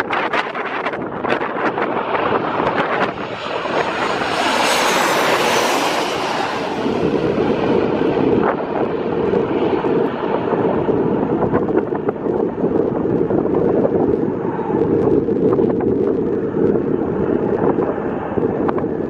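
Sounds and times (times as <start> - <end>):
jet airliner roar: 0.0 - 19.0
wind buffeting microphone: 0.0 - 19.0.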